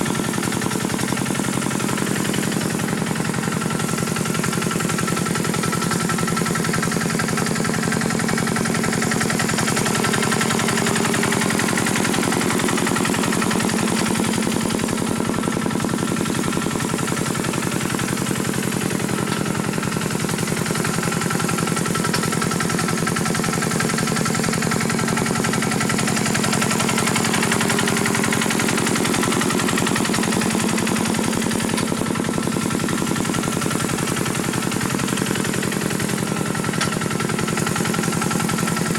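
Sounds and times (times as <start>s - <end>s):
small tractor engine running: 0.0s - 38.9s.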